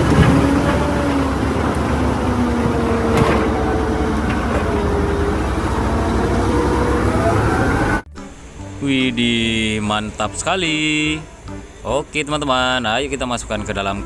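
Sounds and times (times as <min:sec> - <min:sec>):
engine-like running noise: 0:00.0 - 0:14.0.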